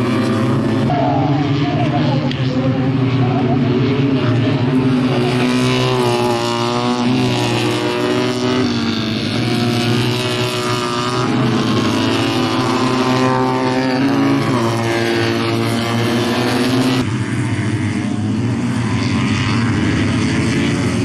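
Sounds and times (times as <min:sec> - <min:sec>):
race car engines passing: 0:00.0 - 0:21.0.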